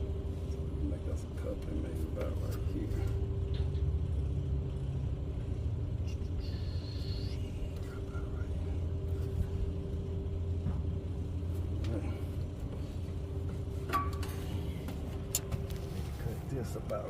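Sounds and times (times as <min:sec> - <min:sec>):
machine rumbling and humming: 0:00.0 - 0:17.0.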